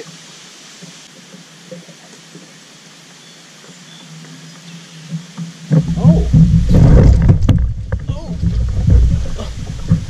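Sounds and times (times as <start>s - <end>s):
creek water running: 0.0s - 10.0s.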